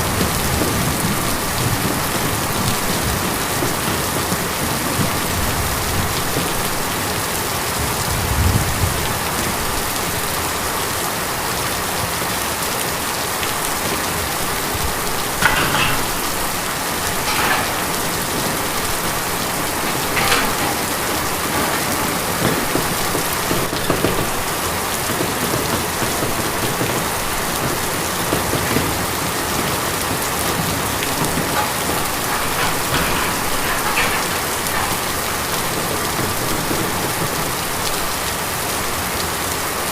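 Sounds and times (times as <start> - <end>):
rain on tin: 0.0 - 39.9.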